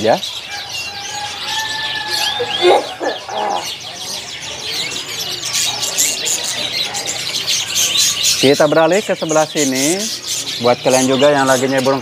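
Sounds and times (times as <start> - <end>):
canaries chirping and twittering: 0.0 - 12.0.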